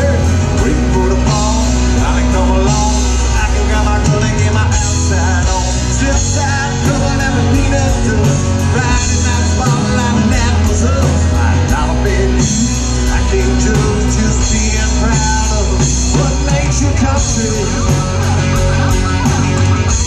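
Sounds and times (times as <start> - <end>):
acoustic and electric guitars: 0.0 - 20.0
bass guitar: 0.0 - 20.0
man singing rock music: 0.0 - 20.0.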